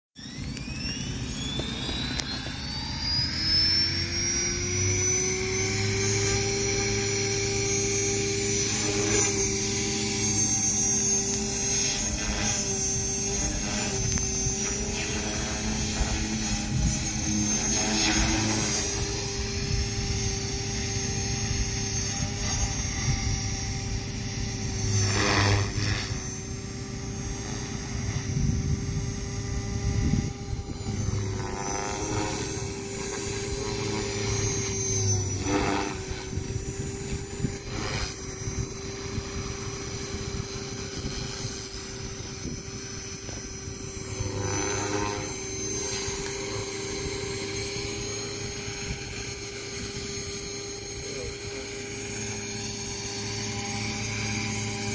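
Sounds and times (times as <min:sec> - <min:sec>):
model helicopter motor whine: 0:00.2 - 0:54.9
rotor swish: 0:00.2 - 0:54.9.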